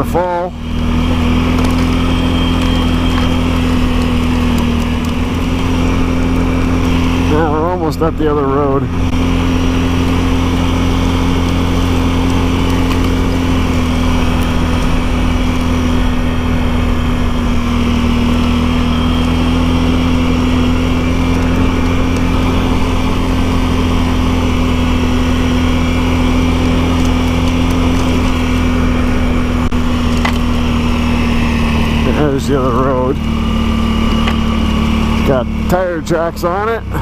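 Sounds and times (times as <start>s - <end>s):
atv engine droning: 0.0s - 37.0s.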